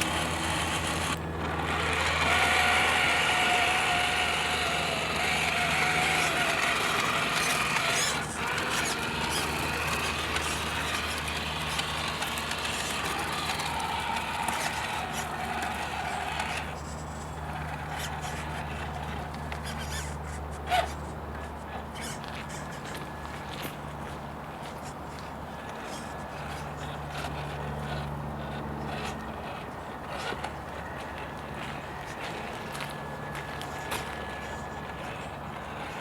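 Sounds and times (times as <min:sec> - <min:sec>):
light clicks and scrapes: 0:00.0 - 0:36.0
small electric motor whining: 0:00.0 - 0:36.0.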